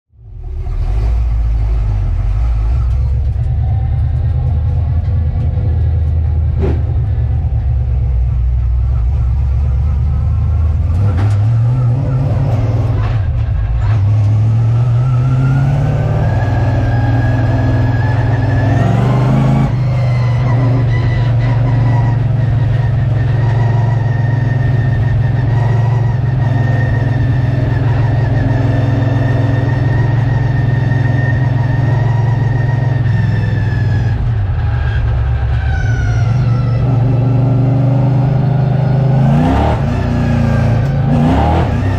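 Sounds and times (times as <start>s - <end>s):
race car engine accelerating: 0.2s - 41.9s.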